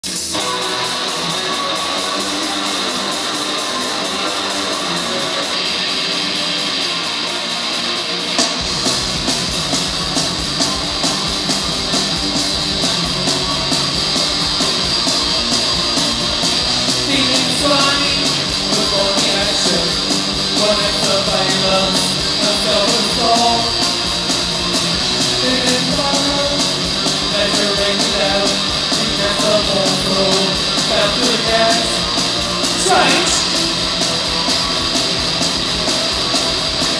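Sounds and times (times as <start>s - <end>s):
bass guitar: 0.0s - 36.9s
drums: 0.0s - 36.9s
electric guitar: 0.0s - 36.9s.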